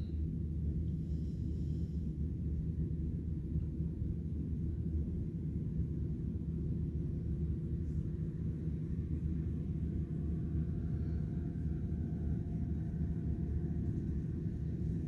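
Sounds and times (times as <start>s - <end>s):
distant combine harvester rumble: 0.0s - 15.0s
faint machine whine: 0.0s - 15.0s.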